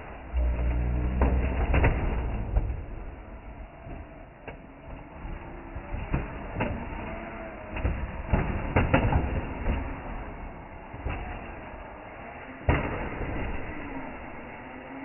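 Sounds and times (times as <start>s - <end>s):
toy car rolling rumble: 0.0s - 15.0s.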